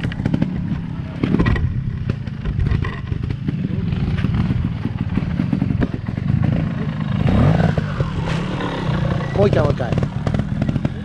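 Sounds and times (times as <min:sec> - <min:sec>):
motorcycle engine chattering: 0:00.0 - 0:11.0.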